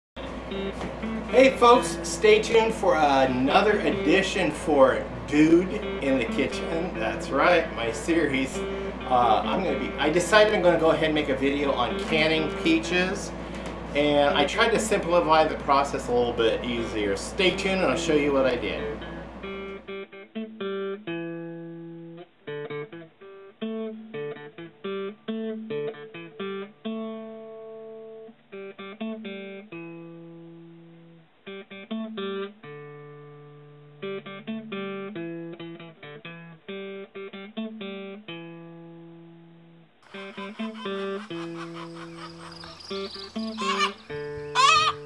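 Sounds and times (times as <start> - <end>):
acoustic guitar picked melody: 0.2 - 45.0.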